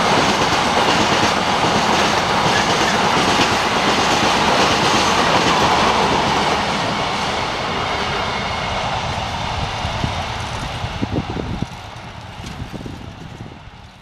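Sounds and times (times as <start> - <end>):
freight train rattling rumble: 0.0 - 14.0.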